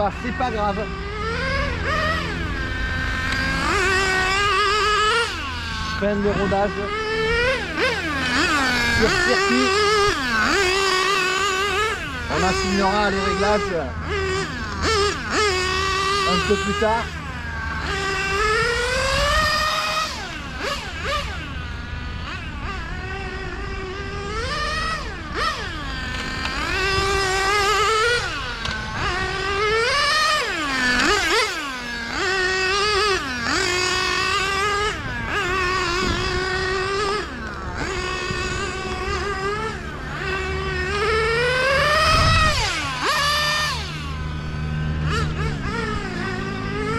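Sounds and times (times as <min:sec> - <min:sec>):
rc car engine whining: 0:00.0 - 0:46.9.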